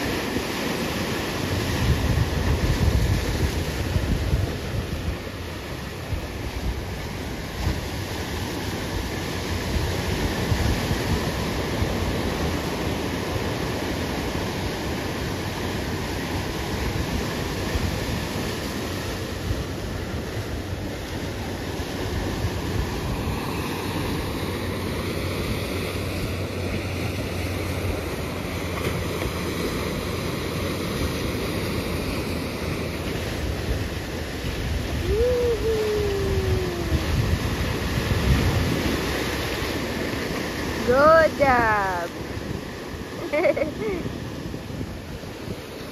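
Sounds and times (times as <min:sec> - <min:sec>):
ocean surf breaking: 0:00.0 - 0:45.9
wind on microphone: 0:01.4 - 0:28.4, 0:30.0 - 0:45.9.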